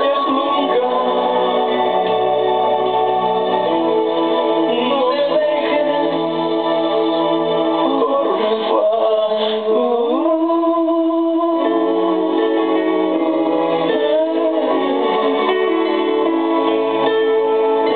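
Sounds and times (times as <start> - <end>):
person singing: 0.0 - 17.9.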